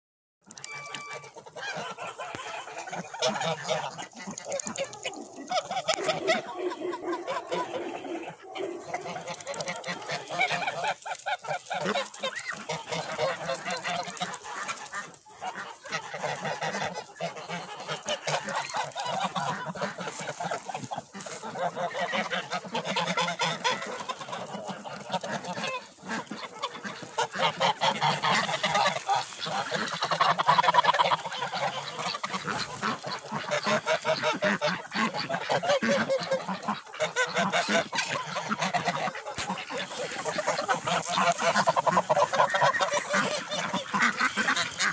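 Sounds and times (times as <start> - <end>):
geese honking and cackling: 0.4 - 44.9.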